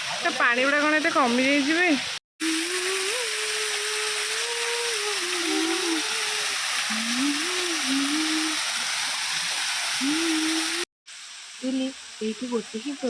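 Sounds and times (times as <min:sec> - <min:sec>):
waterfall rushing: 0:00.0 - 0:10.9.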